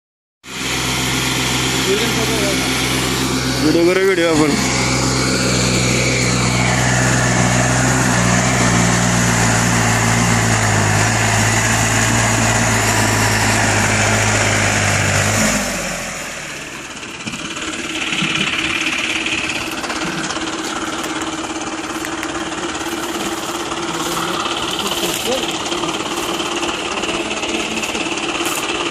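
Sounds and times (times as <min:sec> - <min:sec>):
diesel tractor engine running: 0:00.4 - 0:28.9
higher engine hum: 0:00.4 - 0:28.9.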